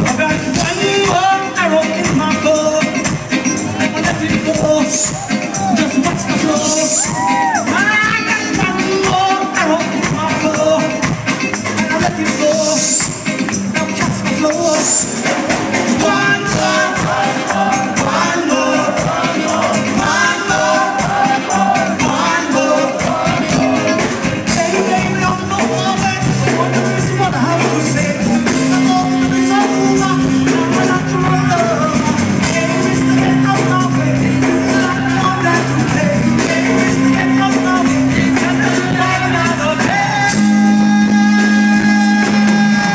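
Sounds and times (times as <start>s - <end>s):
live reggae band: 0.0s - 42.9s
person singing: 0.0s - 42.9s.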